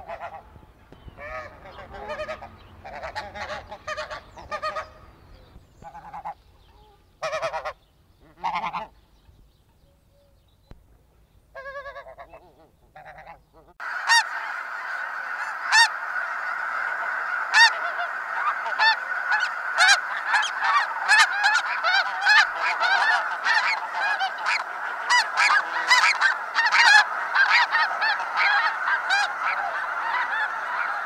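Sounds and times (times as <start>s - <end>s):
geese honking: 0.0s - 0.6s, 1.2s - 5.2s, 5.8s - 9.0s, 11.5s - 31.0s.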